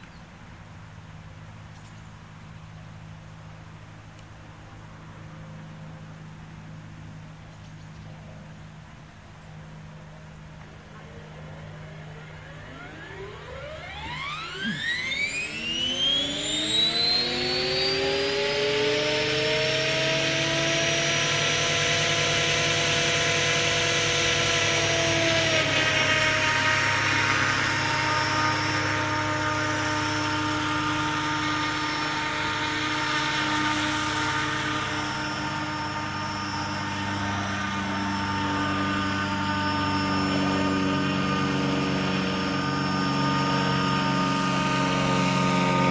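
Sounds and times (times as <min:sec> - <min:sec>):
model helicopter rotor whine: 0:00.0 - 0:45.9.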